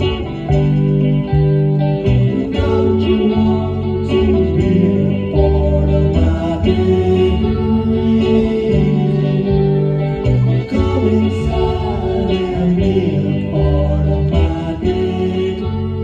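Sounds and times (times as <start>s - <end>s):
guitar-led song: 0.0s - 16.0s.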